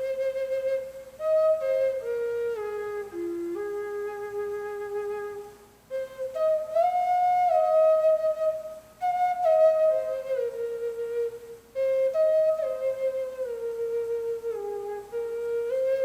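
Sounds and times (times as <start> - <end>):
flute playing slow melody: 0.0 - 16.0.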